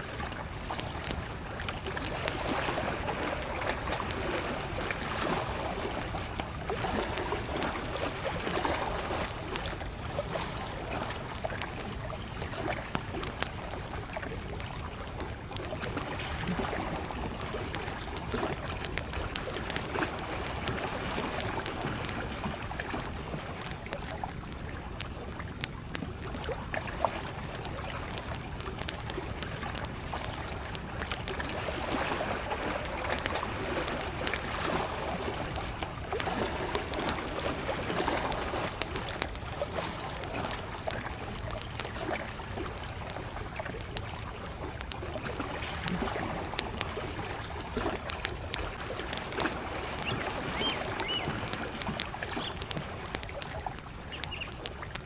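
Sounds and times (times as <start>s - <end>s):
campfire crackling: 0.0s - 55.0s
waves lapping on shore: 0.0s - 55.0s.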